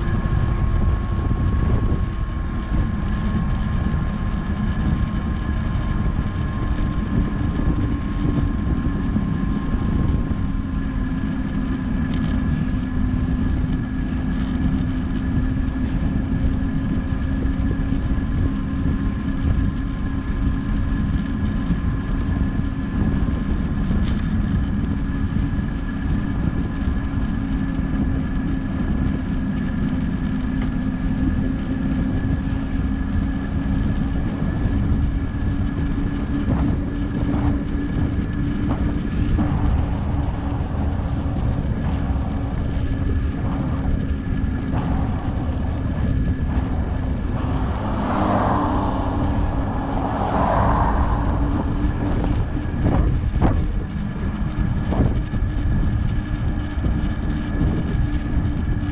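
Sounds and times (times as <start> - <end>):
wind rumbling on microphone: 0.0 - 58.9.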